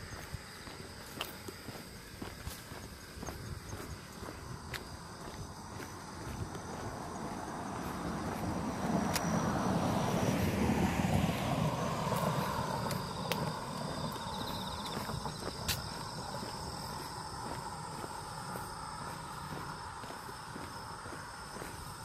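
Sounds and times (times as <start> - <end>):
distant engine rumble: 3.2 - 21.8.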